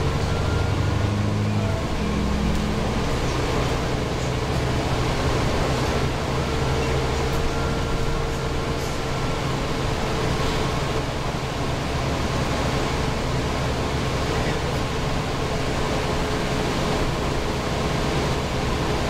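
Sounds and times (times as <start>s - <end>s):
bus diesel engine drone: 0.0s - 19.0s
road noise: 0.0s - 19.0s.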